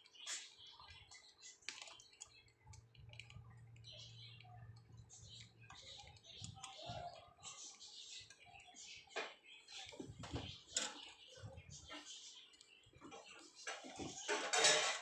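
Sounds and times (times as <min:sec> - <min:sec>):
beaks clicking on leaves: 0:00.0 - 0:14.4.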